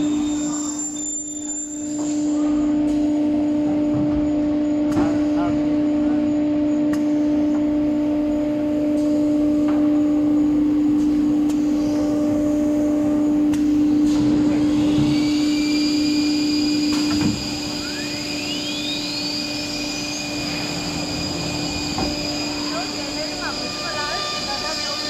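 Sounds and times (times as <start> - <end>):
cnc router spindle whine: 0.0 - 25.0
rising whine: 0.0 - 25.0.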